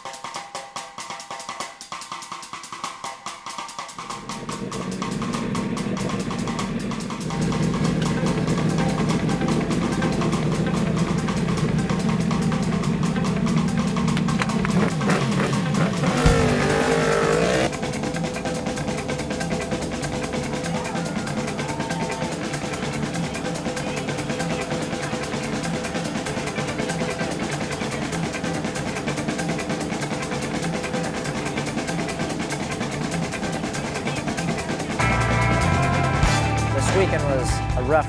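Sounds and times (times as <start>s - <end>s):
background music with steady beat: 0.0s - 38.0s
racing motorcycle engines: 4.0s - 38.0s.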